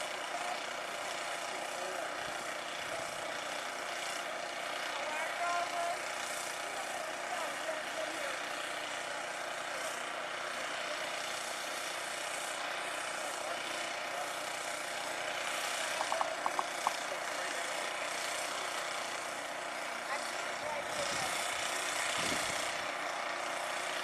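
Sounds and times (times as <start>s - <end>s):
distant snow blower engine: 0.0s - 24.0s.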